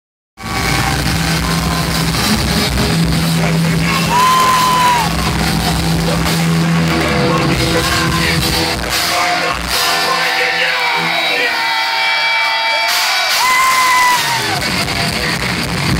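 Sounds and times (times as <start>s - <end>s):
thrash metal band playing: 0.4s - 15.9s.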